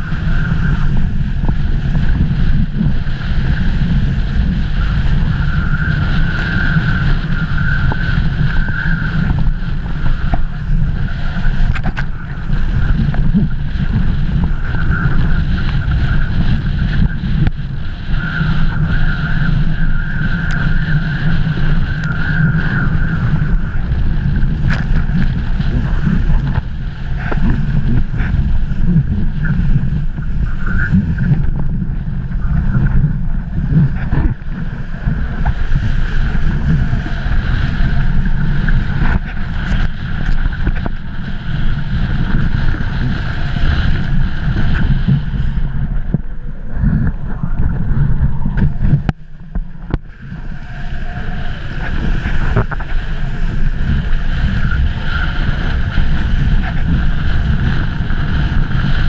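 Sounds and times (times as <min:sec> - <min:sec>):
board and spray hissing on water: 0:00.0 - 0:59.0
high steady hum: 0:00.0 - 0:59.0
wind buffeting microphone: 0:00.0 - 0:59.0.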